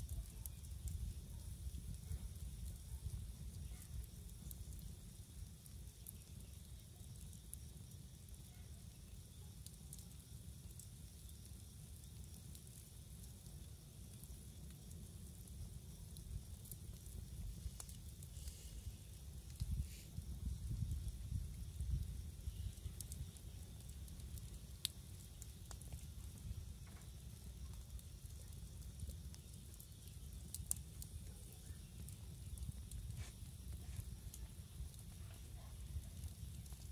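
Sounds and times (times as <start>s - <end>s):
burning logs popping: 0.0s - 36.9s
campfire crackling: 0.0s - 36.9s.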